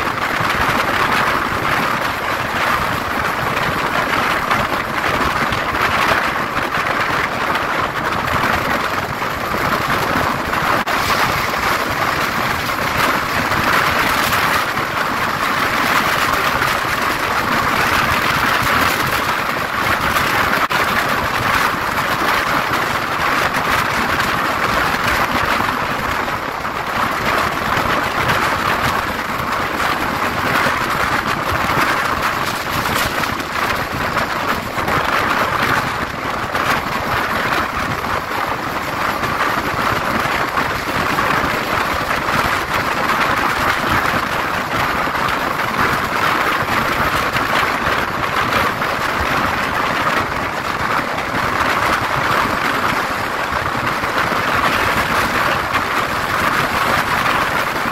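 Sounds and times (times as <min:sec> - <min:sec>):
train wheels rolling on rails: 0:00.0 - 0:57.9
wind noise: 0:00.0 - 0:57.9.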